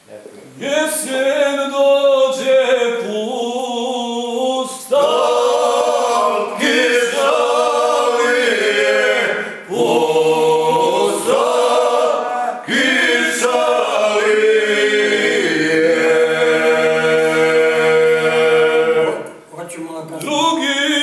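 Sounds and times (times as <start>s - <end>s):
men singing a cappella: 0.6s - 19.5s, 20.2s - 21.0s.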